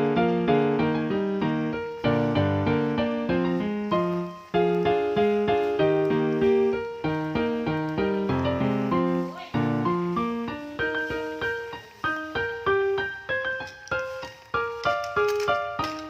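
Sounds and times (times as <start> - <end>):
keyboard melody: 0.0 - 16.0.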